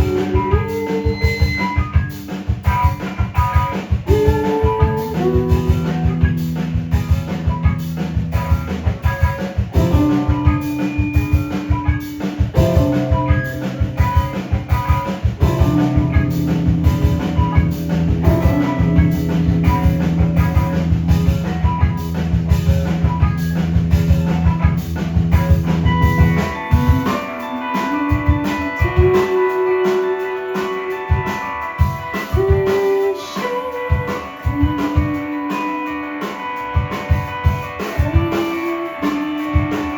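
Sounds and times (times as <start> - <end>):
drum kit: 0.0 - 39.9
electric guitar: 0.0 - 39.9
live rock band playing: 0.0 - 39.9.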